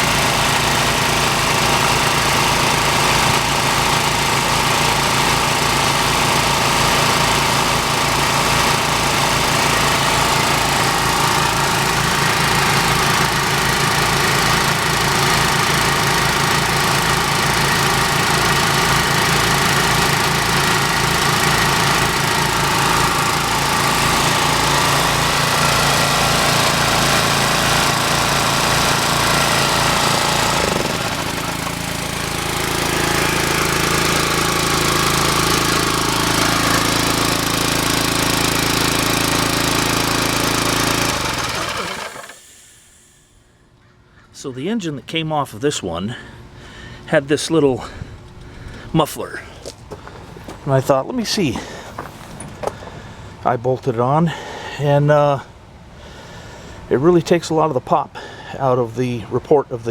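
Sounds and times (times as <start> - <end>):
small gasoline engines running: 0.0 - 43.5, 47.8 - 53.4.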